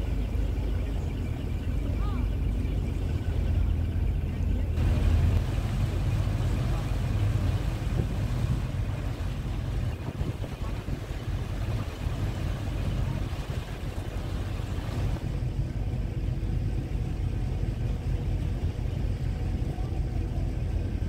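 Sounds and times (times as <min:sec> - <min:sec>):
boat engine drone: 0:00.0 - 0:21.0.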